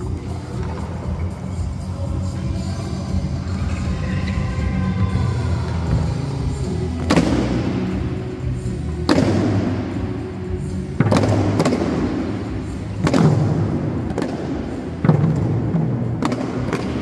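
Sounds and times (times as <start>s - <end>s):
recorded music with bass line: 0.0s - 17.0s.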